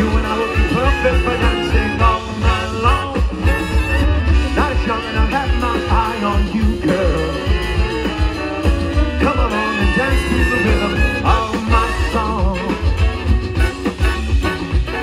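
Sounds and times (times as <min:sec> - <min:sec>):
swing band playing: 0:00.0 - 0:15.0.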